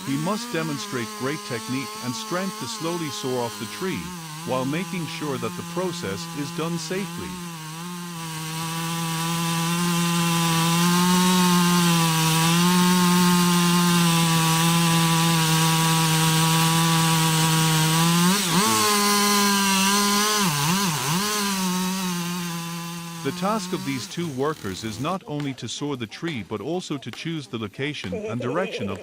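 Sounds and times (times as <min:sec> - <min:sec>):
chainsaw cutting wood: 0:00.0 - 0:25.6.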